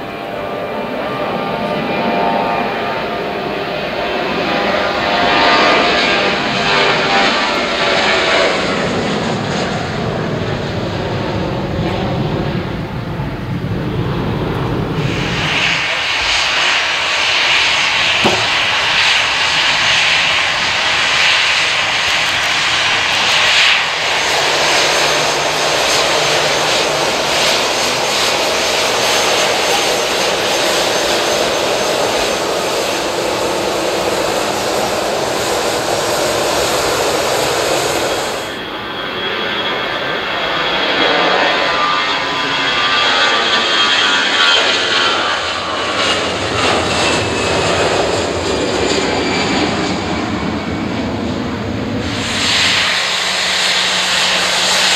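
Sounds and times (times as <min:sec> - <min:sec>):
jet engines whining: 0:00.0 - 0:54.9
jet taking off rumble: 0:00.0 - 0:54.9.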